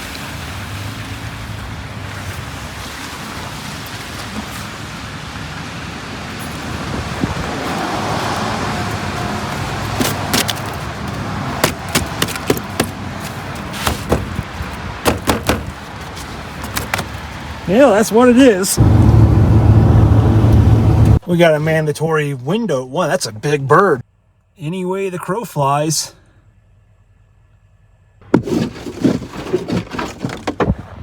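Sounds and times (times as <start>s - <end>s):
van road and engine rumble: 0.0s - 31.0s.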